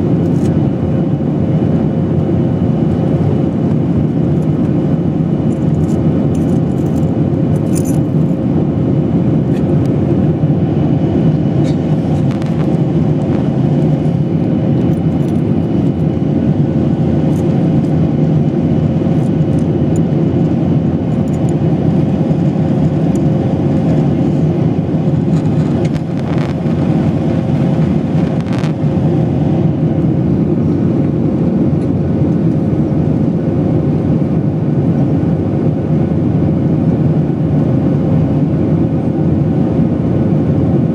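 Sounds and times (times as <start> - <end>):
airliner cabin engine rush: 0.0 - 40.9.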